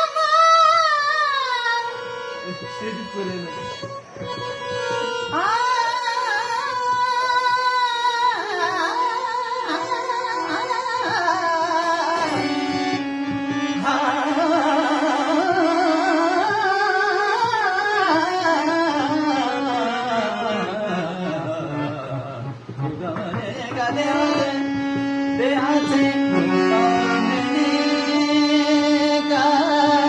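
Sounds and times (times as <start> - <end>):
man singing devotional song: 0.0 - 30.0
sustained instrumental notes: 1.8 - 30.0.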